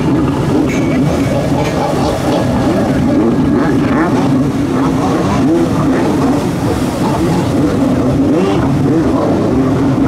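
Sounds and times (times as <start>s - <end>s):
jet ski engines revving: 0.0s - 10.0s.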